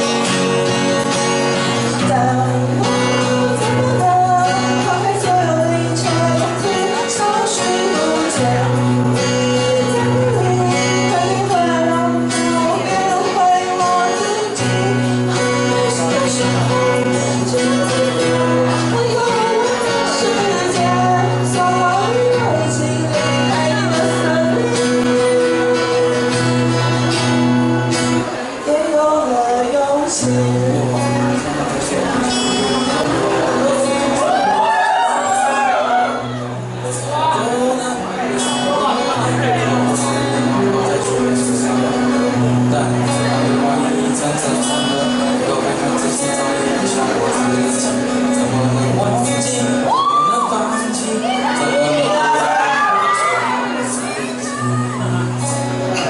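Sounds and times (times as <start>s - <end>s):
acoustic guitar: 0.0s - 56.0s
person singing: 0.0s - 56.0s.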